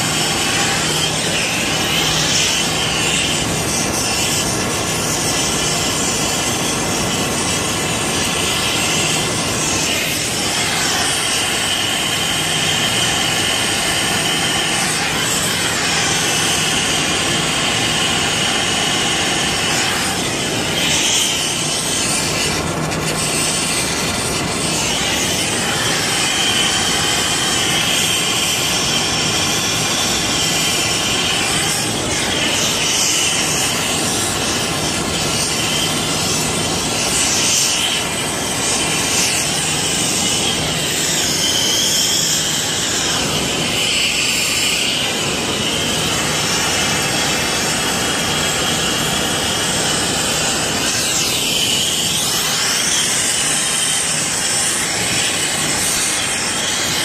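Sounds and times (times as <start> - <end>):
hiss of rushing gas: 0.0 - 57.0.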